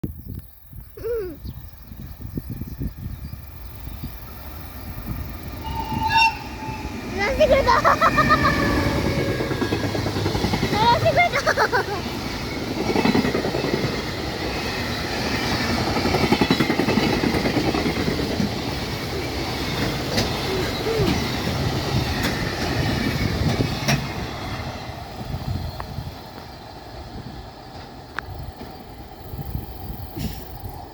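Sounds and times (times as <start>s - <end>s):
train wheels clattering on rails: 5.1s - 30.8s.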